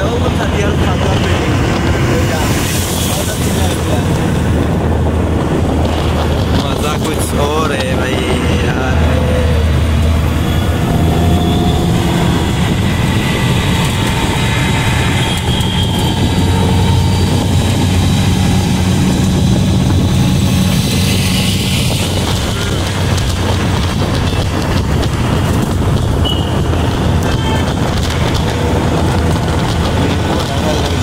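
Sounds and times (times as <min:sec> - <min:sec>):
auto-rickshaw engine droning: 0:00.0 - 0:31.0.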